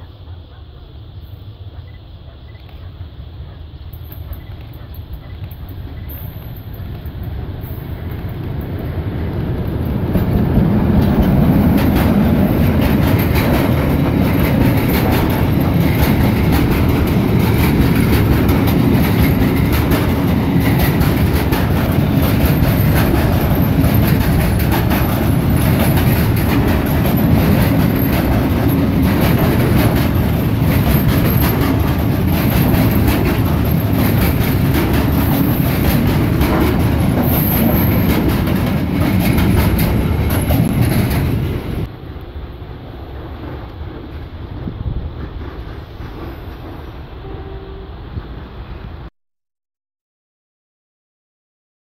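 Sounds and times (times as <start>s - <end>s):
diesel locomotive passing: 0.0s - 49.1s
train wheels clattering over rails: 4.0s - 41.9s, 42.8s - 47.6s.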